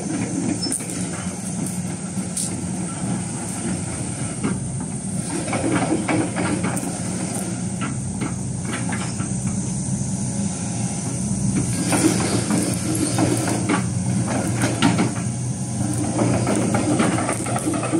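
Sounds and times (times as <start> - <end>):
diesel engine running: 0.0 - 17.9
steel tracks clanking: 0.0 - 17.9.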